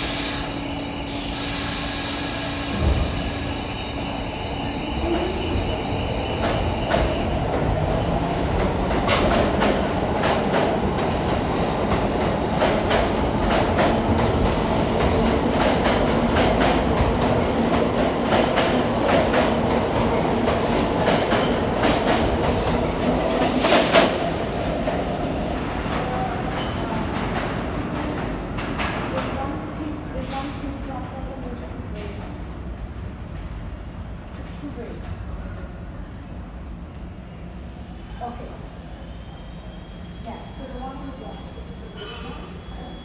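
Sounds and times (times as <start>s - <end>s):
subway train rumbling: 0.0s - 43.0s.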